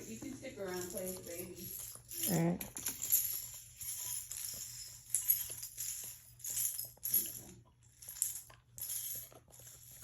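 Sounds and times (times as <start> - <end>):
rustling and jingling: 0.0 - 10.0.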